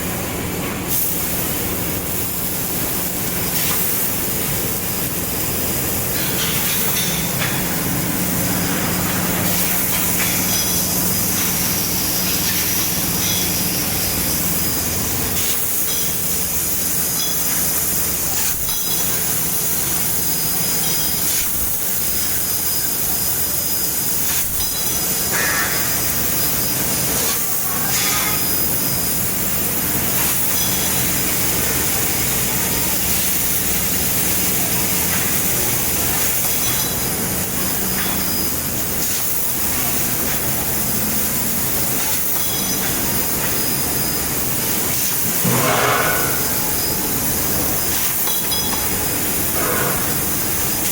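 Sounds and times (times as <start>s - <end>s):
laser cutter hiss: 0.1s - 50.9s.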